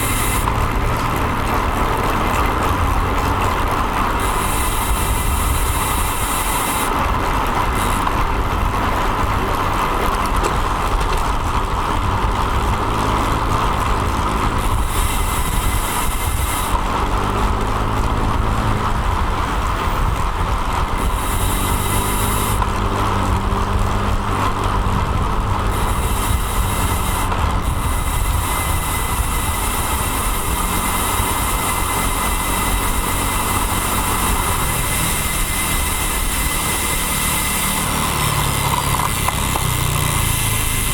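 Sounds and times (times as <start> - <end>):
motor vehicle engine: 0.0 - 40.9
road noise: 0.0 - 40.9
wind noise: 0.0 - 40.9.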